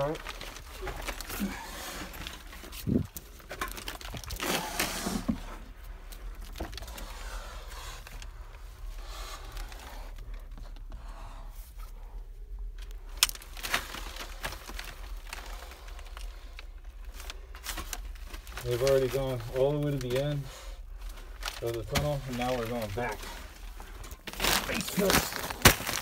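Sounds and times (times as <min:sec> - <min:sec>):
plastic sheeting crinkling: 0:00.0 - 0:10.8, 0:12.8 - 0:26.0.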